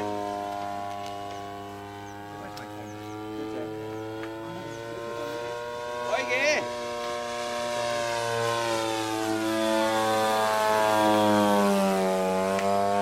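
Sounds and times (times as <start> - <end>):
model plane engine buzzing: 0.0 - 13.0.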